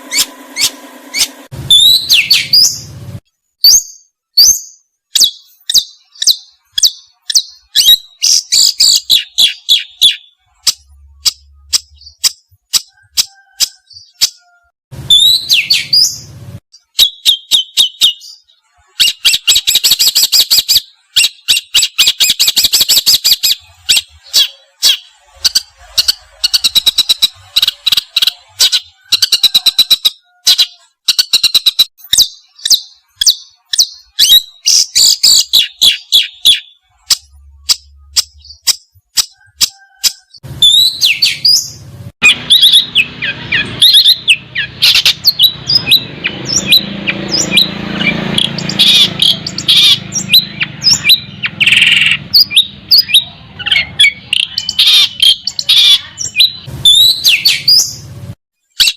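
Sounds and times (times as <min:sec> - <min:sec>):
sliding whistled bird notes: 0:00.1 - 0:02.9, 0:03.6 - 0:58.0.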